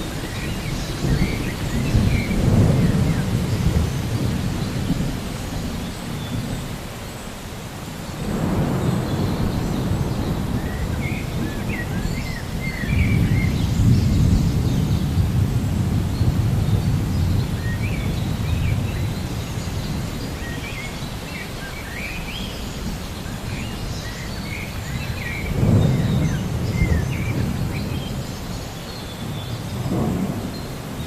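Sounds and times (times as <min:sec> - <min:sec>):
distant thunder rumbling: 0:00.0 - 0:07.0, 0:08.0 - 0:31.0
birds chirping: 0:00.0 - 0:31.0.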